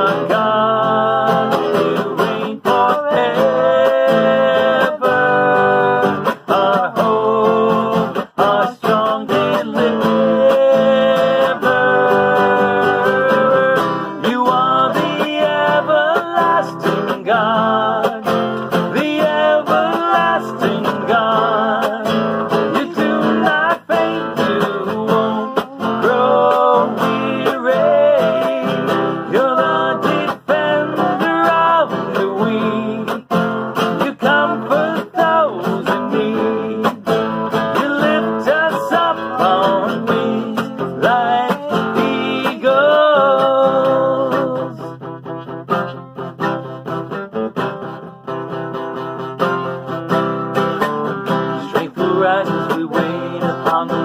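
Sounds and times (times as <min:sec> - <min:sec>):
people singing: 0:00.0 - 0:45.0, 0:51.3 - 0:54.0
acoustic guitar strumming: 0:00.0 - 0:54.0.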